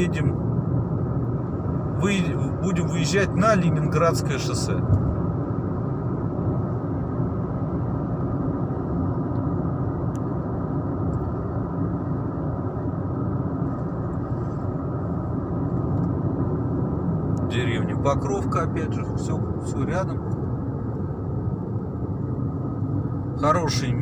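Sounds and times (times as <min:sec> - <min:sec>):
car engine running: 0:00.0 - 0:24.0
road noise inside car: 0:00.0 - 0:24.0.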